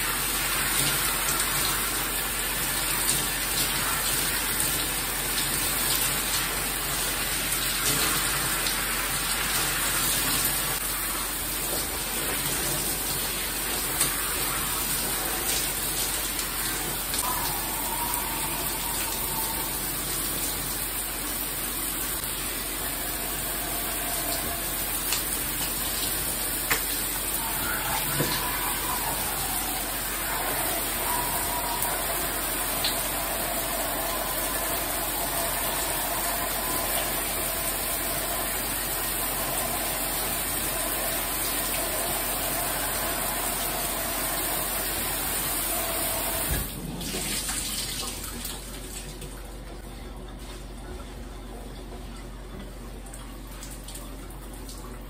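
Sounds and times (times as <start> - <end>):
shower spray hissing: 0.0 - 47.5.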